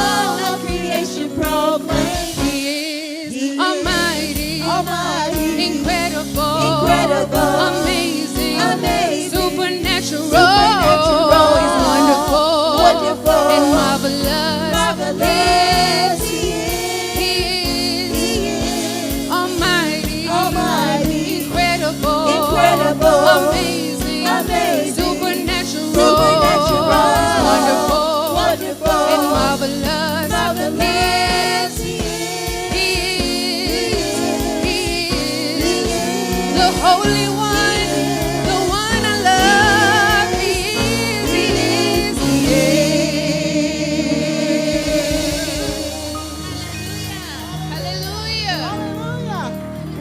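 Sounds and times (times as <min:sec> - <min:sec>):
gospel singers with band: 0:00.0 - 0:50.0.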